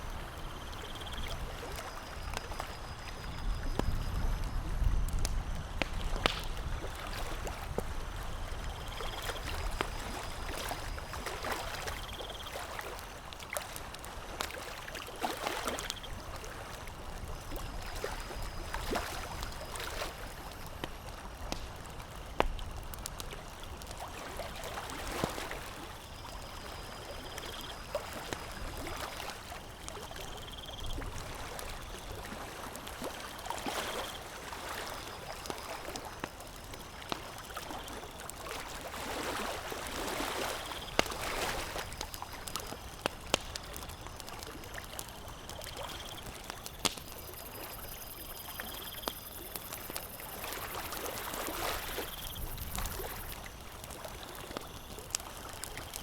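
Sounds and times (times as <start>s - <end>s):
campfire crackling: 0.0s - 56.0s
moving water: 0.0s - 56.0s.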